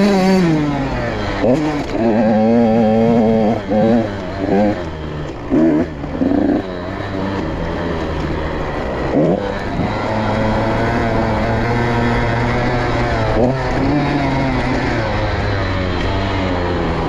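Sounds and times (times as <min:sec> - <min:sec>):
motorcycle engine running hard: 0:00.0 - 0:17.0.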